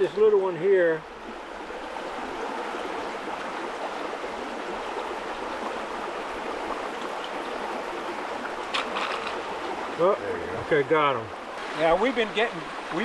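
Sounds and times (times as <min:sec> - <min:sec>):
river water running: 0:00.0 - 0:13.0.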